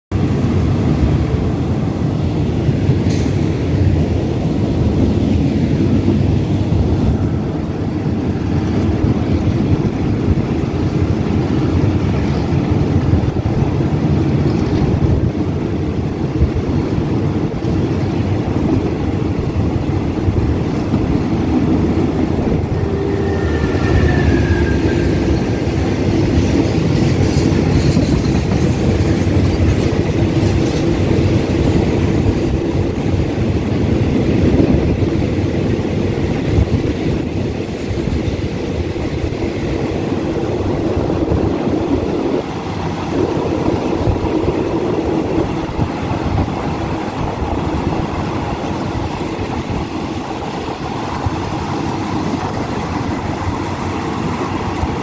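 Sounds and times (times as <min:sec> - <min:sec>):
passenger train rumble: 0:00.1 - 0:55.0
passing freight train rush: 0:00.1 - 0:55.0.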